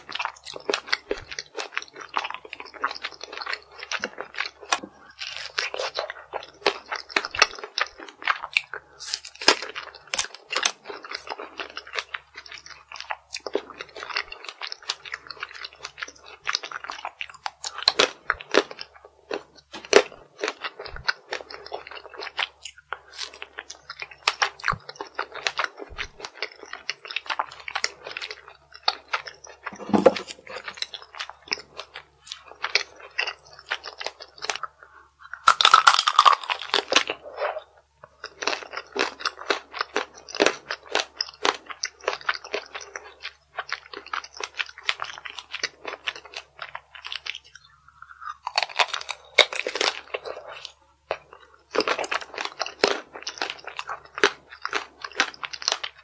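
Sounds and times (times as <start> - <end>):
candy shell crunching: 0.0 - 56.0
chewing: 0.0 - 56.0.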